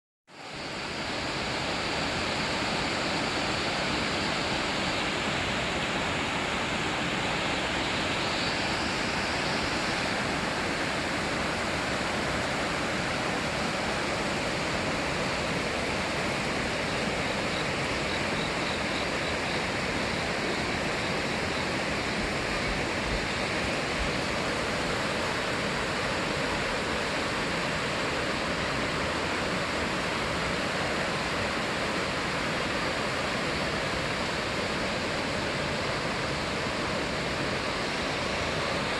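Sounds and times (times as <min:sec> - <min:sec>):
stream rushing: 0:00.3 - 0:38.9.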